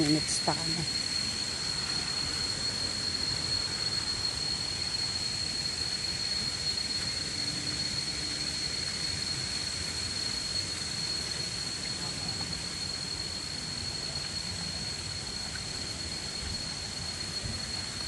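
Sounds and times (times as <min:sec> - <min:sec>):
high-pitched whine: 0:00.0 - 0:18.0.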